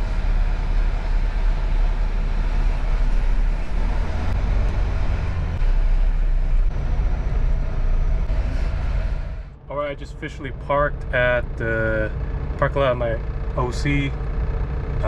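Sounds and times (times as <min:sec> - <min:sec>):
road and cab noise: 0:00.0 - 0:15.0
truck diesel engine rumble: 0:00.0 - 0:15.0.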